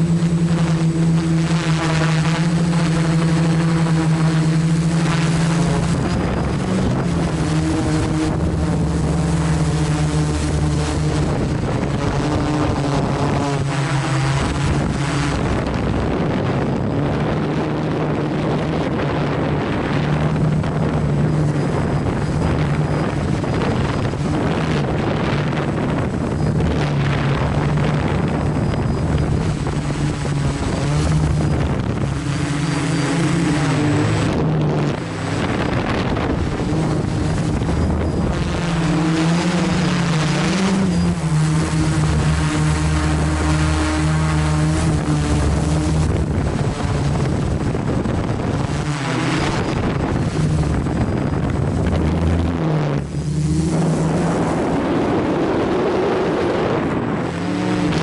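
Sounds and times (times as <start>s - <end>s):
quadcopter propellers buzzing: 0.0s - 58.0s.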